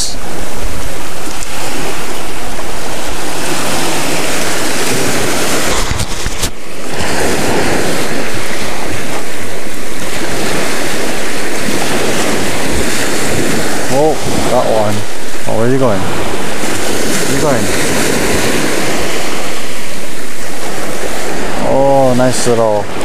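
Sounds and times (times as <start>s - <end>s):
waves washing onto shore: 0.0s - 23.0s
wind buffeting microphone: 0.0s - 23.0s.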